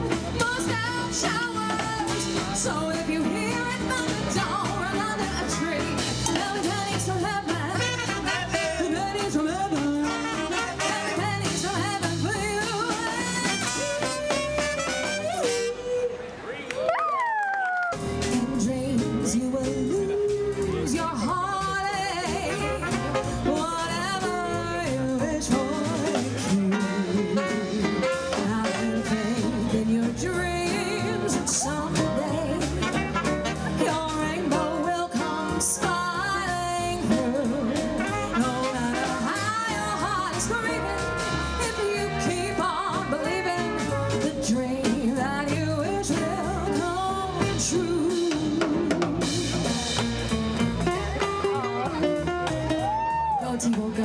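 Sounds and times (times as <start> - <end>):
song with singing: 0.0 - 50.4.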